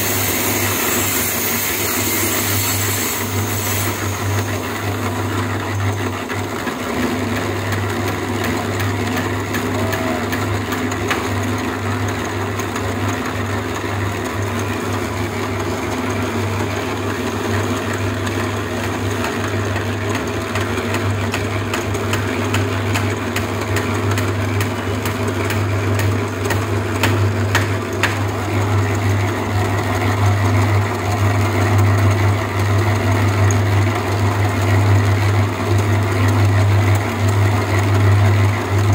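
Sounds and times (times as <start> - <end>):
concrete mixer motor humming: 0.0 - 38.9.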